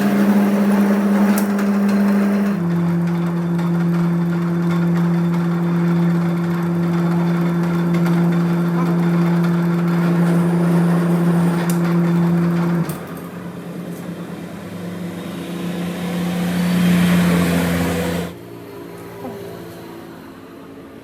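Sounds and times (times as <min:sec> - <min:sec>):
machine motor hum: 0:00.0 - 0:21.0.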